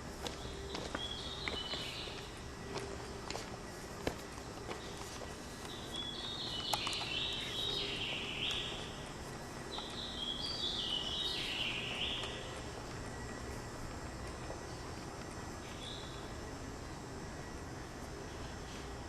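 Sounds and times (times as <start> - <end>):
low background hum: 0.0 - 19.0
songbird singing: 0.0 - 19.0.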